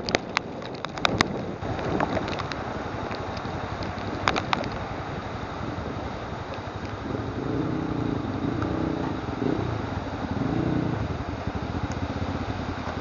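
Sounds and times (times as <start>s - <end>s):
motorcycle engine revving: 0.0s - 13.0s
wind and road noise: 0.0s - 13.0s.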